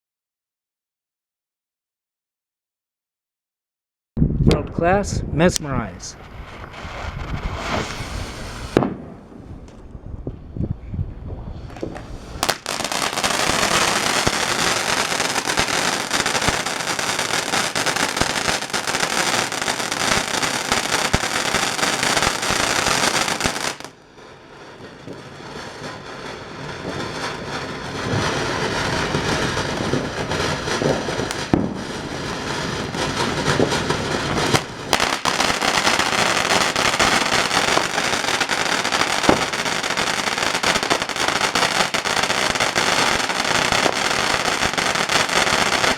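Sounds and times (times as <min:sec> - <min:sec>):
firework fountain hissing and crackling: 0:05.9 - 0:09.3, 0:11.5 - 0:45.9.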